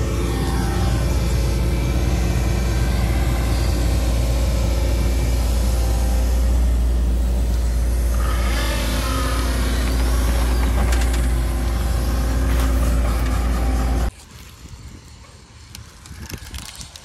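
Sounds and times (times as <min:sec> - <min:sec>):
excavator diesel engine running: 0:00.0 - 0:14.1
hydraulic whine: 0:00.0 - 0:17.0.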